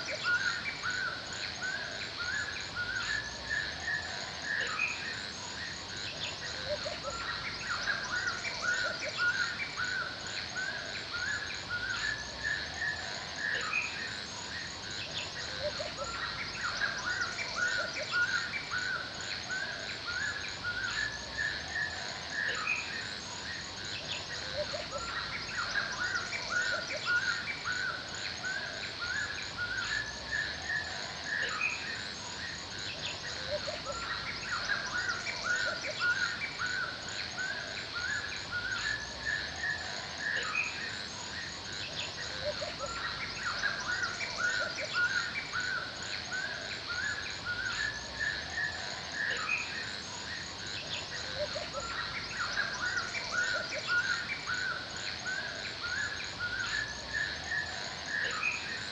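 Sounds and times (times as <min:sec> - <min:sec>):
birds chirping: 0:00.0 - 0:58.9
high-pitched insect chorus: 0:00.0 - 0:58.9.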